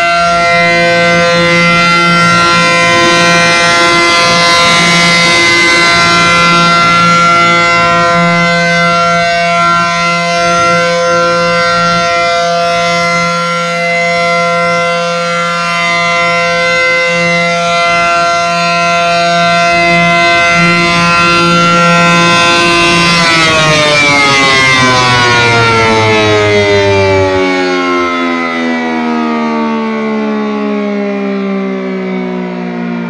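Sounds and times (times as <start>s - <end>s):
rotating siren steady tone: 0.0s - 33.0s.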